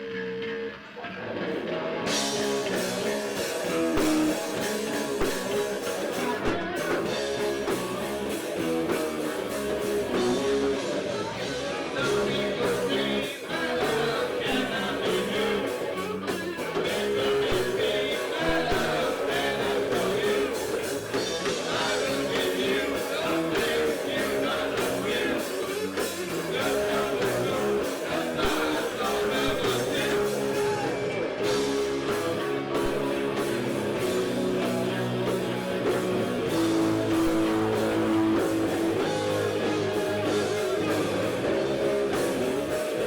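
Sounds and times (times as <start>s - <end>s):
electric guitar: 0.0s - 43.0s
rock band playing: 0.0s - 43.0s.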